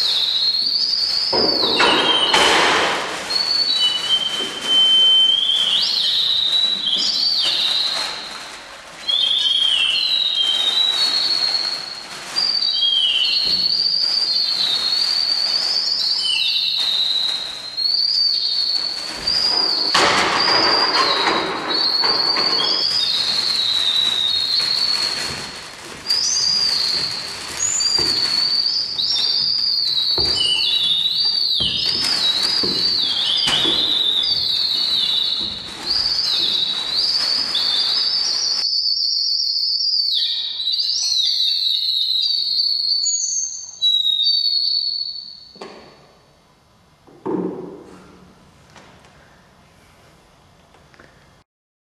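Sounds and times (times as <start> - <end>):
high whistling tone: 0.0 - 45.6.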